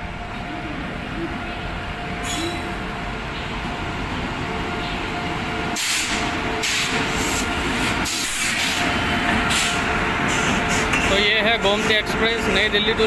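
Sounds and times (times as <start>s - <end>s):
train rumbling along platform: 0.0s - 13.0s.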